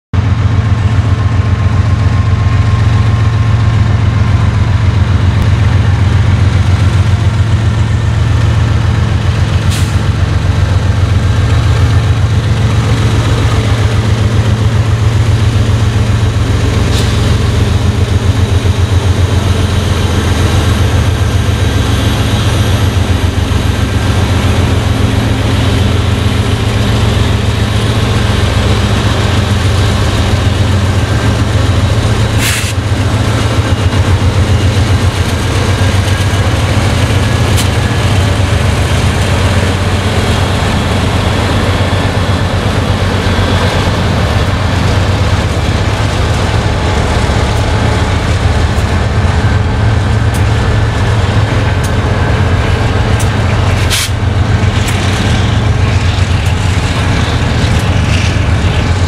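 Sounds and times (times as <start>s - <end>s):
diesel locomotives rumbling: 0.0s - 59.0s.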